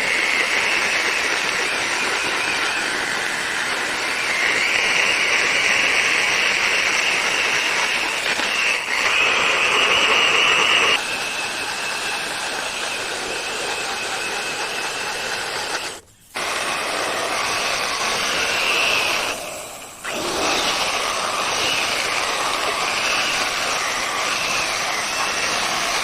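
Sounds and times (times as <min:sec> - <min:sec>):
electric saw cutting wood: 0:00.0 - 0:26.0.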